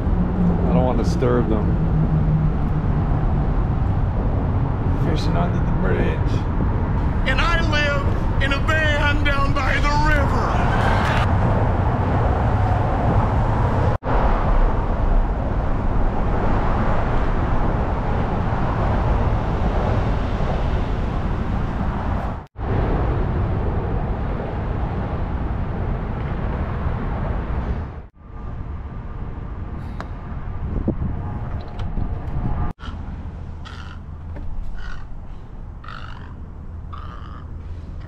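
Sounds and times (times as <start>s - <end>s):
dense rushing noise: 0.0s - 33.6s.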